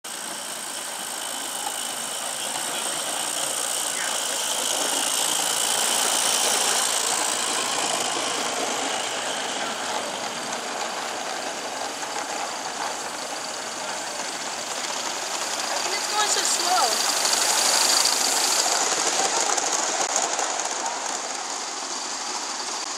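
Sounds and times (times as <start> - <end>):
steam locomotive hissing: 0.0 - 22.9.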